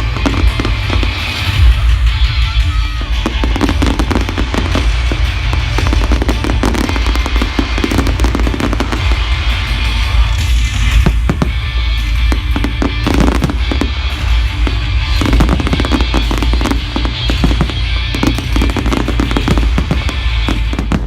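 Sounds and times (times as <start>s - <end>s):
fireworks bursting and crackling: 0.0s - 21.0s
loud music: 0.0s - 21.0s.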